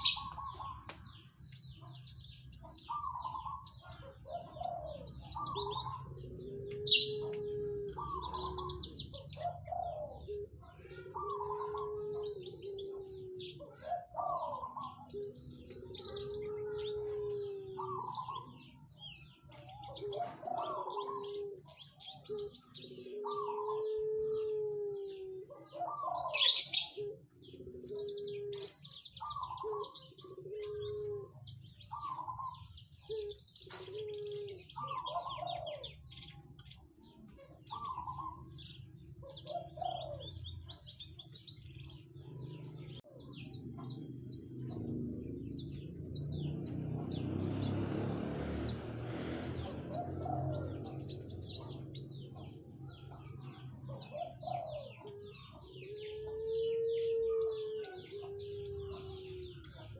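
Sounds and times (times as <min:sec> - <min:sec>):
bird twittering trills: 0:00.0 - 0:59.9
low cooing notes: 0:00.0 - 0:59.9.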